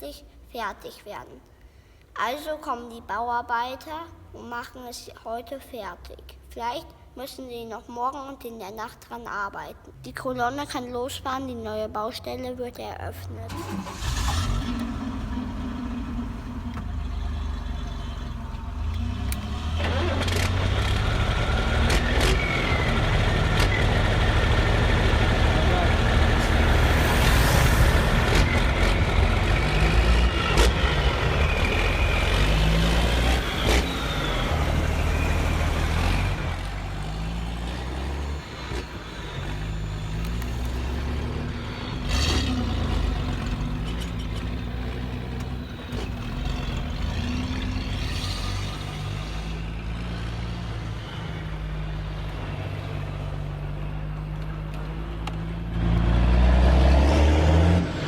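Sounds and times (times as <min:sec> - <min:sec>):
model truck engines: 0:07.5 - 0:58.0.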